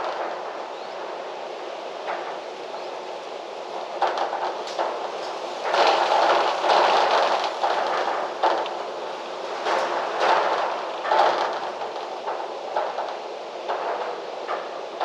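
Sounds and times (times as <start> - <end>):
gusty wind through trees: 0.0 - 15.0.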